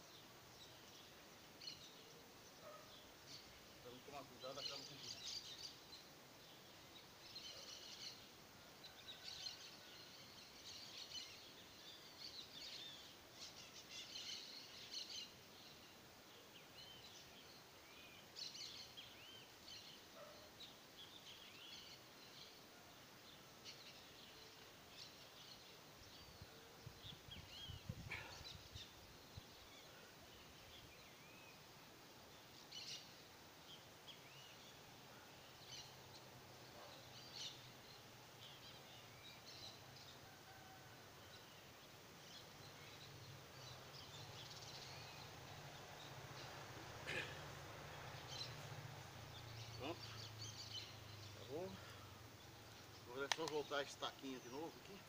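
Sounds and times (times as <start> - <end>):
faint birds chirping: 0.0 - 55.0.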